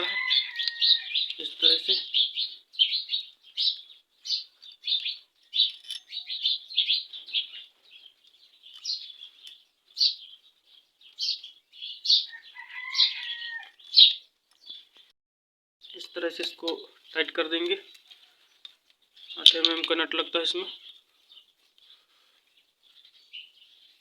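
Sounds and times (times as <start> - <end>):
small bird chirping: 0.2 - 15.1, 15.8 - 24.0.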